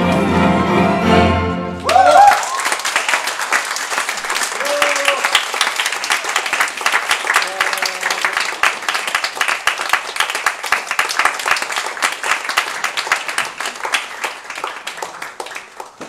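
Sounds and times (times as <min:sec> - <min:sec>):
audience applauding: 0:01.8 - 0:16.0.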